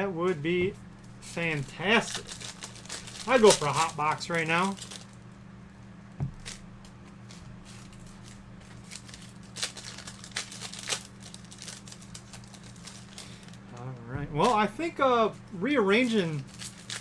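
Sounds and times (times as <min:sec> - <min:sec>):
foil wrappers crinkling and tearing: 0:01.0 - 0:13.8, 0:16.0 - 0:17.0.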